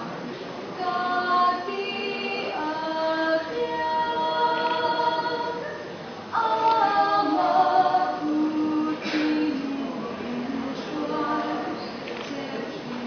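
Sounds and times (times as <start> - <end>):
female vocal quartet singing a cappella: 0.8 - 13.0.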